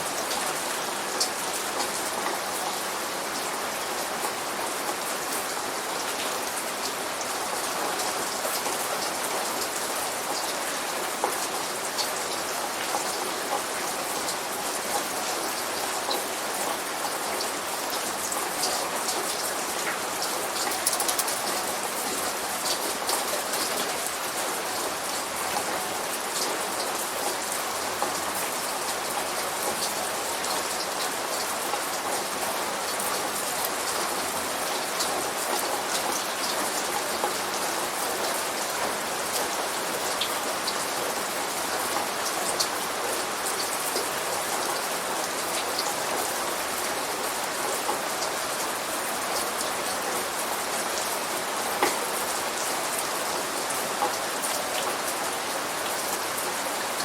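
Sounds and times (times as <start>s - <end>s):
light rain pattering: 0.0s - 57.0s.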